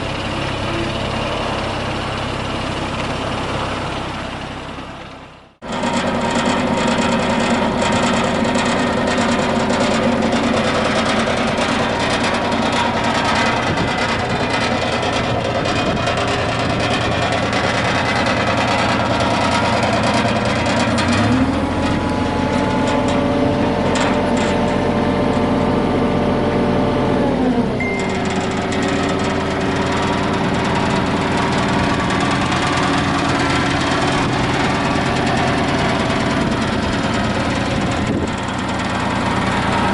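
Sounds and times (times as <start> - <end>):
diesel excavator engine running: 0.0 - 39.9.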